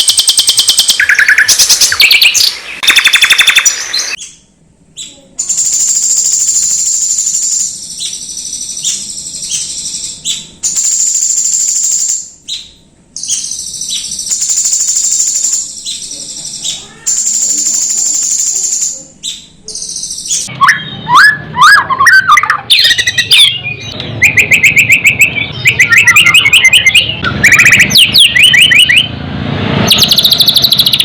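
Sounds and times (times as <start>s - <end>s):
songbird song: 0.0s - 29.2s.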